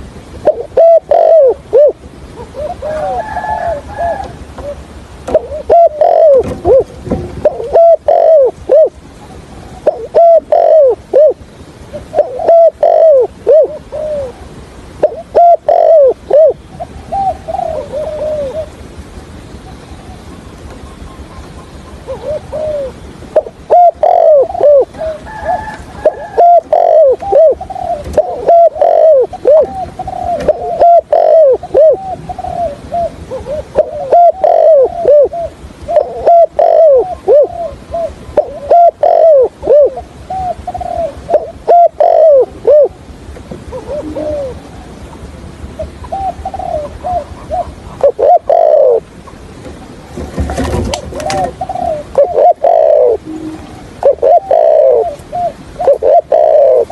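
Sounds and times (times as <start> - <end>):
dove cooing: 0.2 - 18.9, 19.6 - 56.9.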